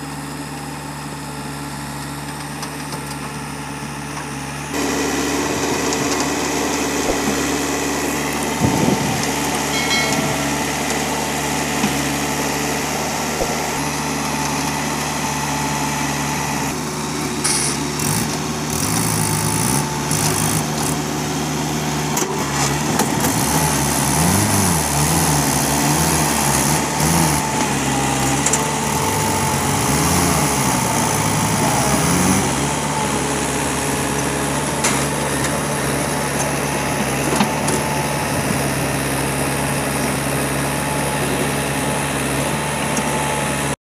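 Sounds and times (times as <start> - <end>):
diesel engines labouring: 0.0 - 43.8.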